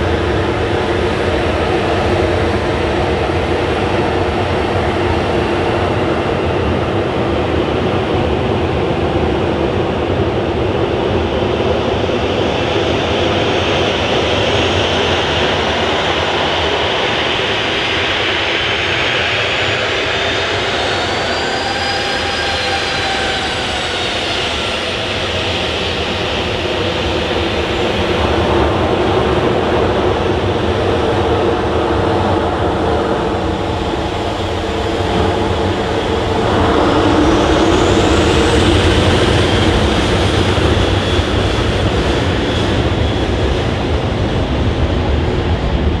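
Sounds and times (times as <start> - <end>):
jet engine whine: 0.0 - 46.0
jet engines roaring past: 0.0 - 46.0.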